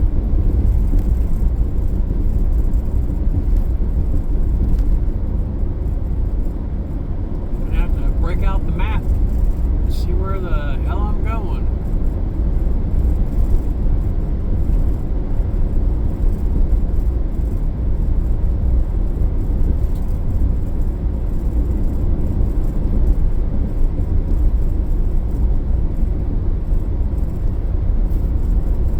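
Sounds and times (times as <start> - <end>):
car driving on road: 0.0 - 28.9.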